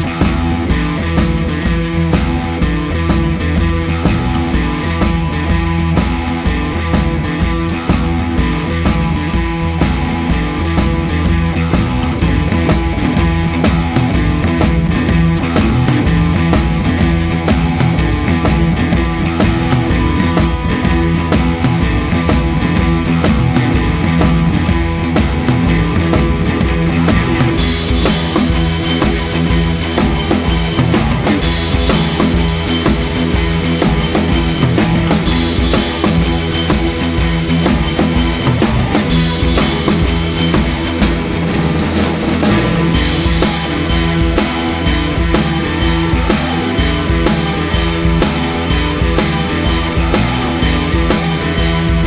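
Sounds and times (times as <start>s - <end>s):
hard rock music: 0.0s - 52.0s.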